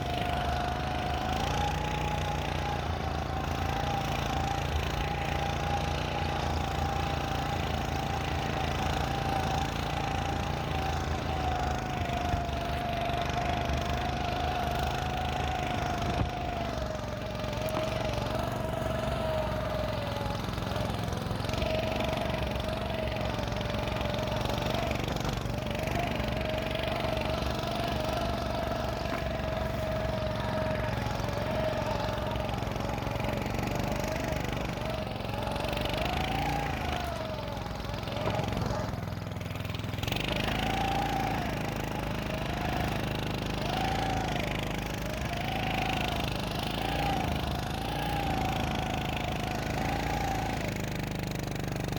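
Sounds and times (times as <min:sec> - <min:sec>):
snow scooter engine running: 0:00.0 - 0:51.9.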